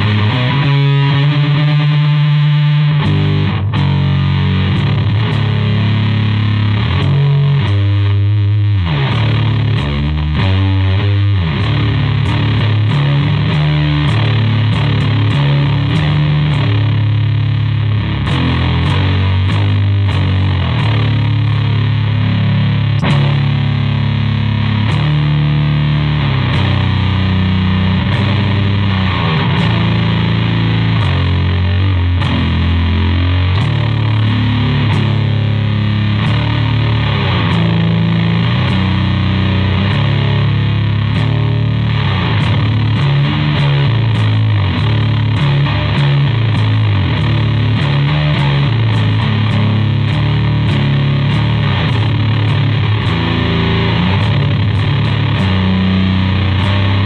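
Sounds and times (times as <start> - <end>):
fuzzed electric bass riff: 0.0 - 57.0.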